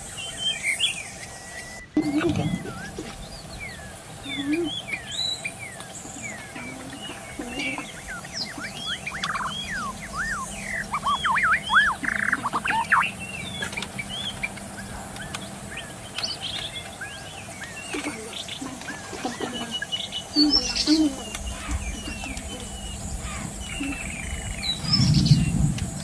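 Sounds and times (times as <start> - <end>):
songbird whistling song: 0.0 - 26.0.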